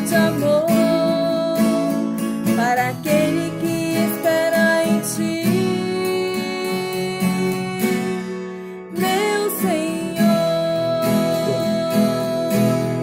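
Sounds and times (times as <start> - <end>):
plucked steel-string guitar: 0.0 - 13.0.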